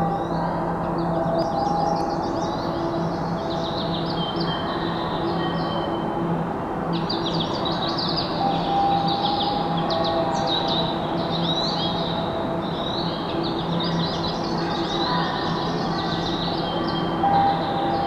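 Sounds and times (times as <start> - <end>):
recorded bird chirping from speaker: 0.0 - 18.0.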